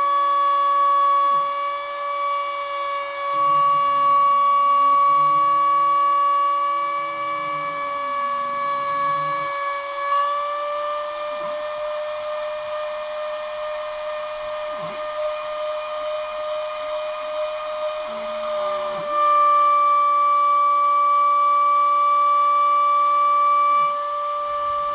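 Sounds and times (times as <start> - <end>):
stepper motors whining: 0.0 - 24.9.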